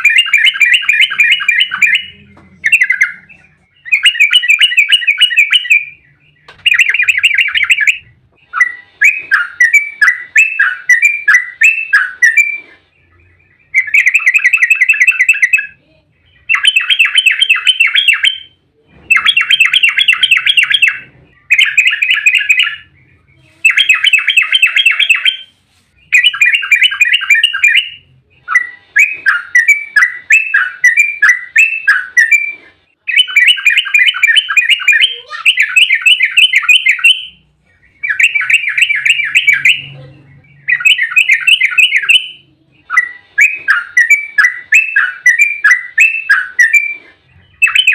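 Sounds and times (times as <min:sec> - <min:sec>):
bulbul singing bubbling song: 0:00.0 - 0:47.9.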